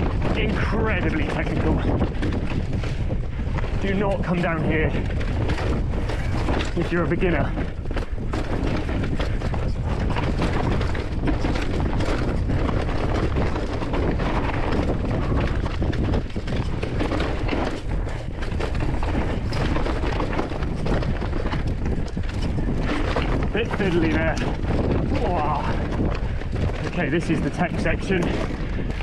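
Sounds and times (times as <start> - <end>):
bike rattling: 0.0 - 29.0
tyres crunching over loose rock: 0.0 - 29.0.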